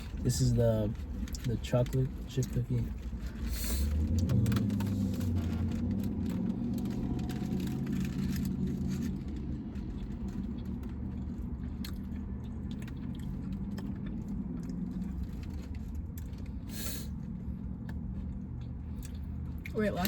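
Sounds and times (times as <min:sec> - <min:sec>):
car idling: 0:00.0 - 0:20.0.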